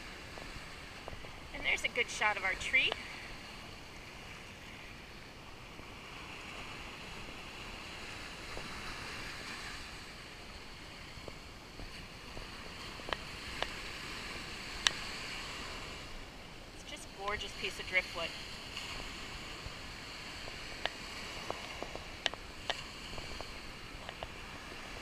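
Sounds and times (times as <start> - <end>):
gentle surf washing on shore: 0.0 - 25.0.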